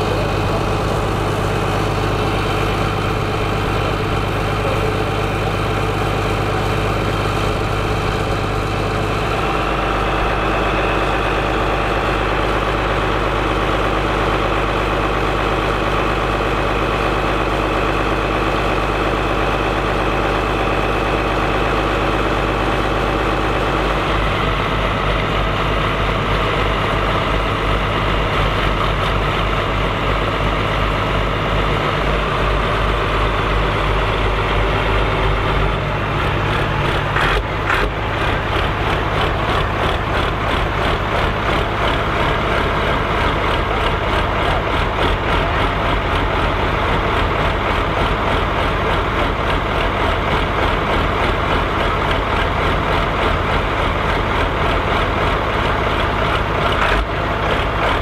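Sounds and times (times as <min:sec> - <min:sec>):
throbbing tractor engine: 0:00.0 - 0:58.0
tractor diesel engines idling: 0:00.0 - 0:58.0.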